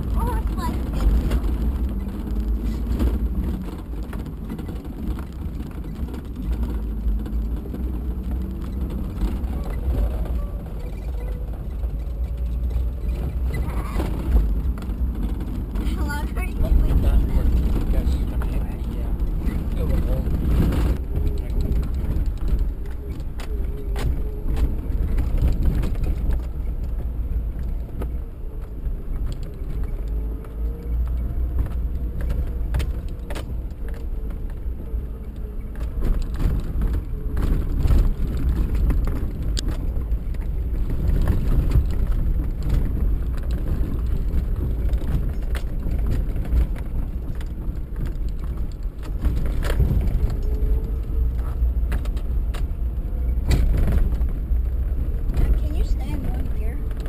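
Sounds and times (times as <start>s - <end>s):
engine and tyres rumbling: 0.0s - 57.0s
rattles and knocks over bumps: 0.0s - 57.0s.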